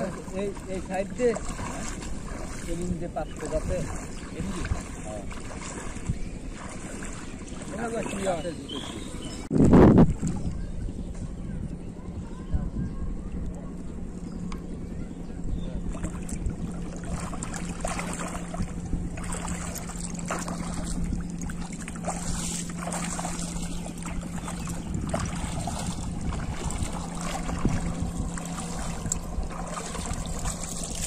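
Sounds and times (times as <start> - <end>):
water splashing and sloshing: 0.0 - 10.7, 15.8 - 31.0
steady low hum: 0.0 - 31.0.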